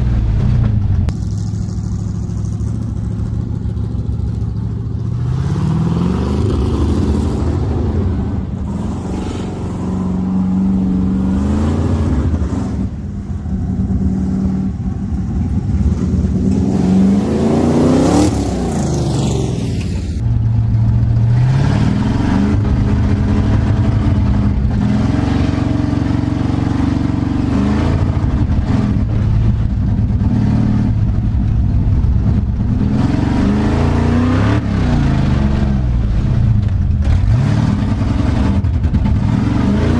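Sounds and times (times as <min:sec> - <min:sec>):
truck engine revving hard: 0:00.0 - 0:39.9.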